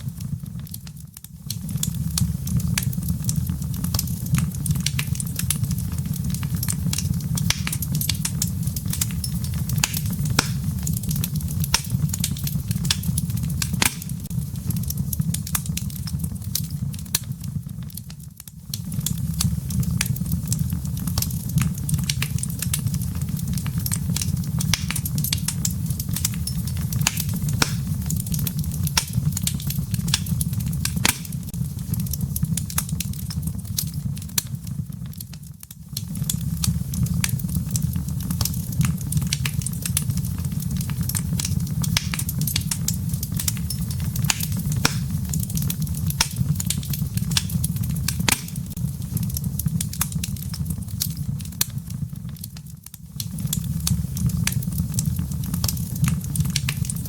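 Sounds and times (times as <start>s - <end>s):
fire low rumble: 0.0s - 57.0s
firewood crackling and popping: 0.0s - 57.0s.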